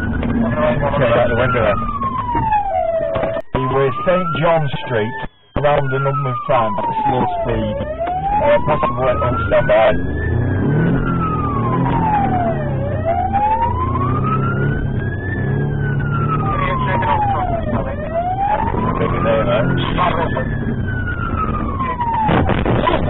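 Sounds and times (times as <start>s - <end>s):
car engine rumble: 0.0s - 23.0s
police siren wailing: 0.0s - 23.0s.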